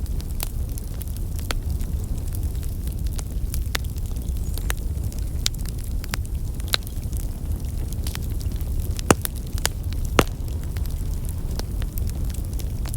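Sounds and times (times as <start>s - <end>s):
fire burning with low rush: 0.0s - 12.9s
fire crackles and pops: 0.0s - 12.9s.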